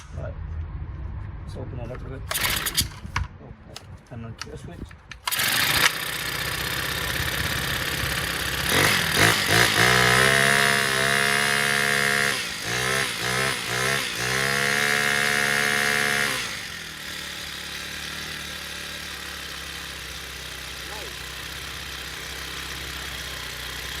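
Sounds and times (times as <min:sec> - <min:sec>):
string trimmer engine revving: 0:02.3 - 0:03.1, 0:05.2 - 0:24.0.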